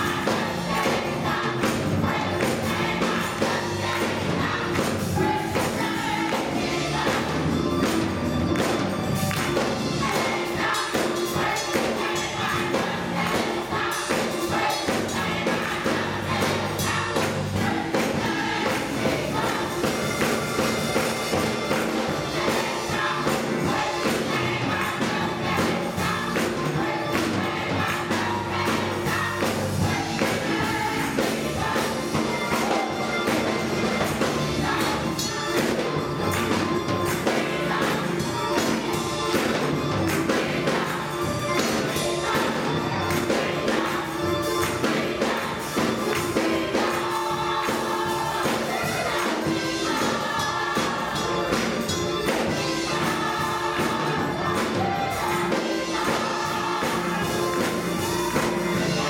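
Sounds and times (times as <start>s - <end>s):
gospel choir singing: 0.0s - 59.0s
keyboard accompaniment: 0.0s - 59.0s
percussive beat: 0.0s - 59.0s.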